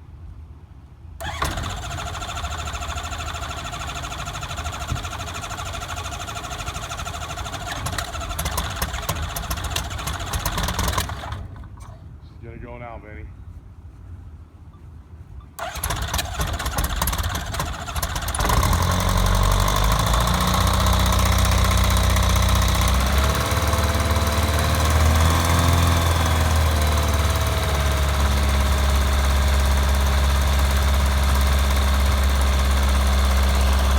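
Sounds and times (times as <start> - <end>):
aircraft engine idling: 1.2 - 11.9, 15.6 - 33.9.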